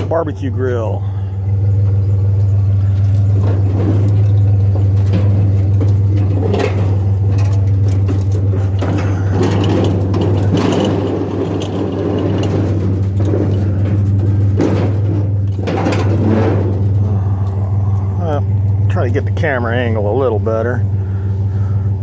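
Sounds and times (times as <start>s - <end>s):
rattles and clanks: 0.0s - 22.0s
truck engine idling: 0.0s - 22.0s.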